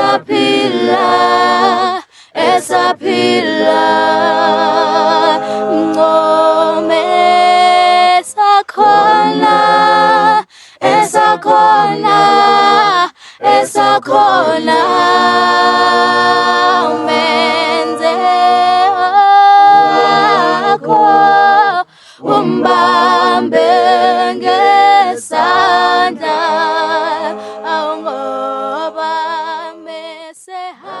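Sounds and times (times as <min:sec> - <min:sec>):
a cappella group singing in harmony: 0:00.0 - 0:31.0.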